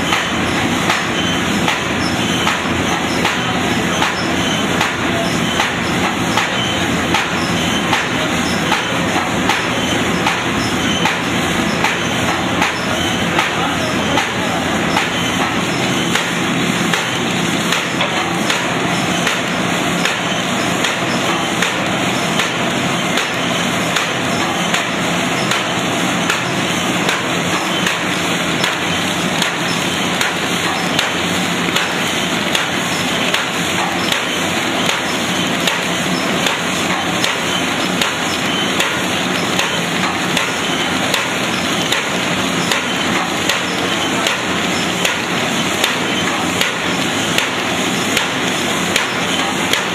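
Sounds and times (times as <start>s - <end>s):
paper bag machine clattering: 0.1s - 49.9s.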